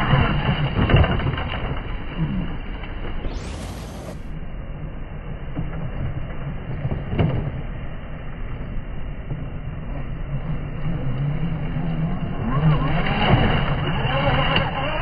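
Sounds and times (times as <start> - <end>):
rc truck rumbling on gravel: 0.0 - 4.3, 5.6 - 15.0.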